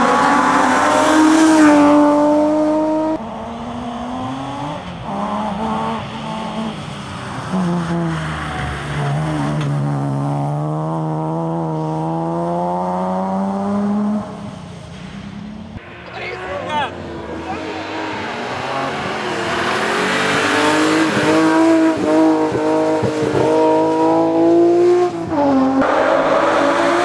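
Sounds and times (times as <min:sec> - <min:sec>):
rally car engine revving: 0:00.0 - 0:14.6, 0:15.8 - 0:27.0.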